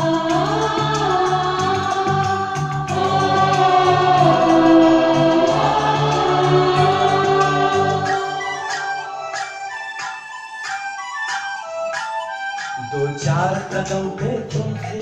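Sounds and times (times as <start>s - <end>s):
film song over loudspeakers: 0.0s - 15.0s.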